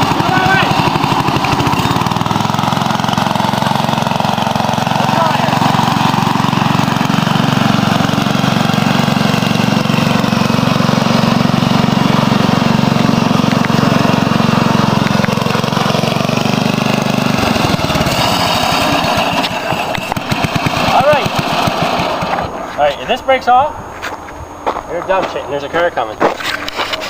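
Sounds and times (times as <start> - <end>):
lawn tractor engine running: 0.0 - 23.2, 26.4 - 27.0.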